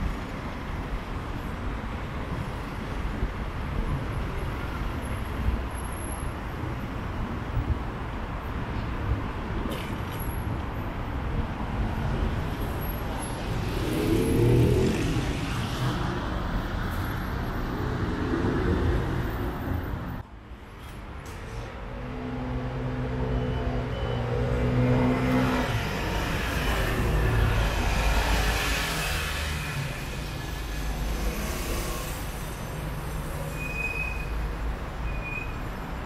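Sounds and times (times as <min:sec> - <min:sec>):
cars passing and accelerating: 0:00.0 - 0:36.0.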